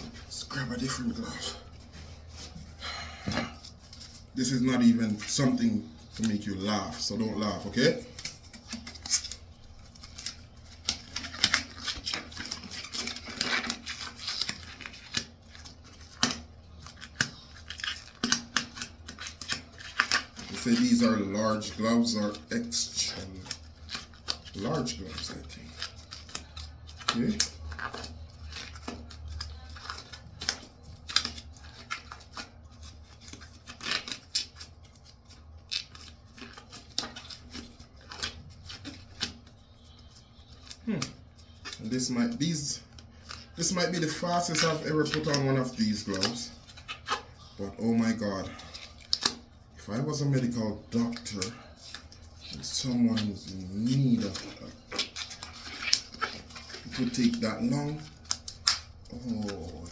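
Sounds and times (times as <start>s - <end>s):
gloves rustling and stretching: 0.0s - 59.9s.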